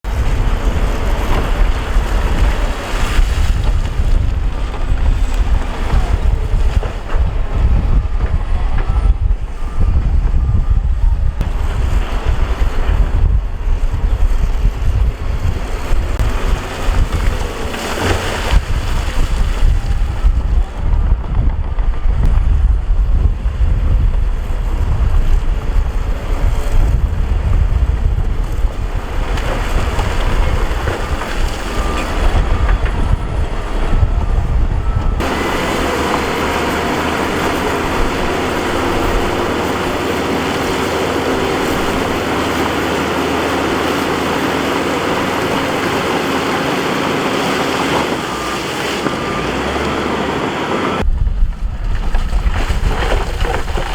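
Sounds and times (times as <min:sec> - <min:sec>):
low engine rumble: 0:00.0 - 0:53.9
wind buffeting microphone: 0:00.0 - 0:53.9.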